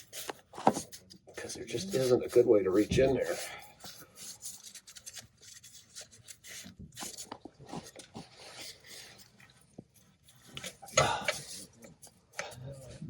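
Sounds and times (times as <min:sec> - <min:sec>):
hands rubbing and scraping: 0:00.0 - 0:12.9.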